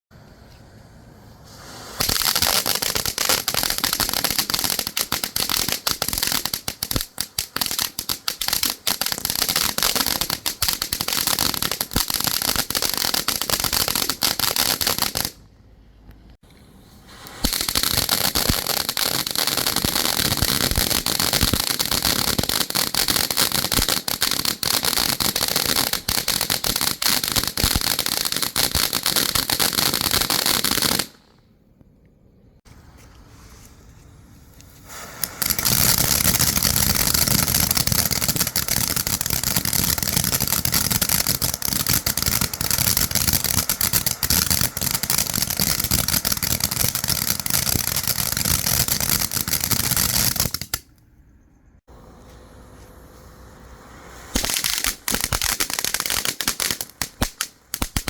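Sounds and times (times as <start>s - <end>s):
firework fountain hissing crackle: 0.8s - 15.4s, 16.7s - 31.3s, 34.4s - 50.9s, 51.8s - 58.0s.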